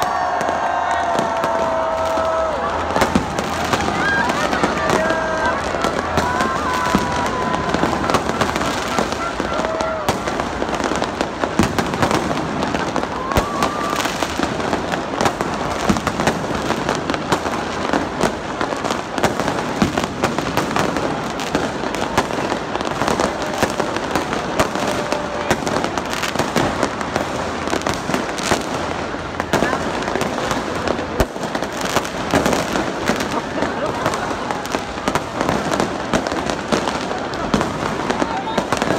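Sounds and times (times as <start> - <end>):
crowd voices: 0.0 - 38.9
fireworks bangs and crackles: 0.0 - 38.9.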